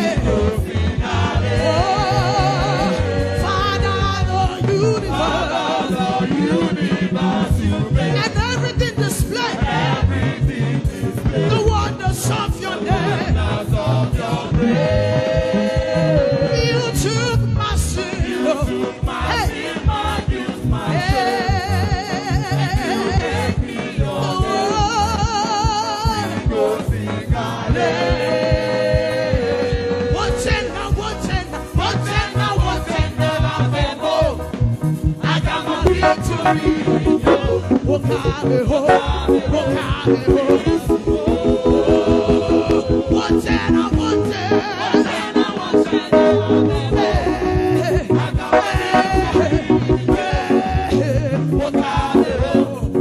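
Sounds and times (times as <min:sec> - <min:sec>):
choir singing gospel: 0:00.0 - 0:53.0
live band with drum beat: 0:00.0 - 0:53.0.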